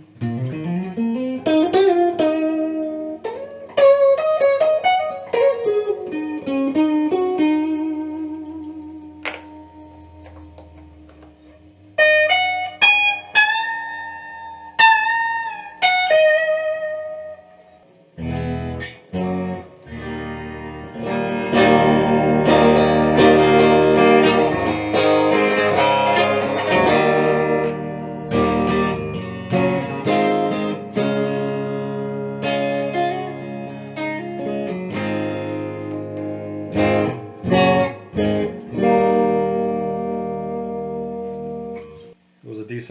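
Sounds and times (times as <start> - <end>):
electric guitar chords strummed: 0.0 - 42.4
electric guitar picked notes: 0.0 - 42.4.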